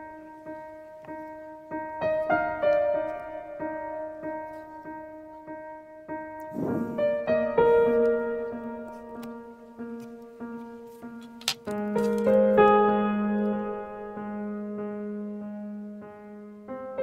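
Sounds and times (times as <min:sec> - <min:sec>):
piano music with pulsing beat: 0:00.0 - 0:17.0.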